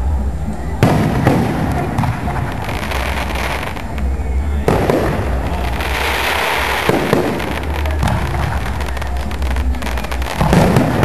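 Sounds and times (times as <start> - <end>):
fireworks crackling: 0.0 - 11.0
fireworks booming: 0.7 - 11.0.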